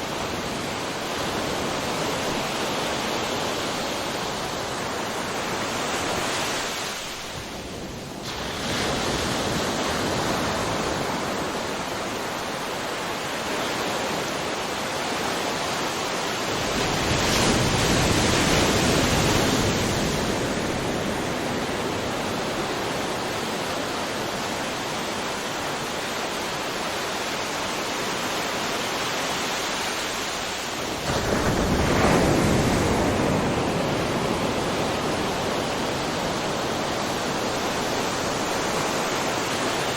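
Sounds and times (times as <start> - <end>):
wave crashing: 0.0 - 39.9
waves breaking: 0.0 - 39.9.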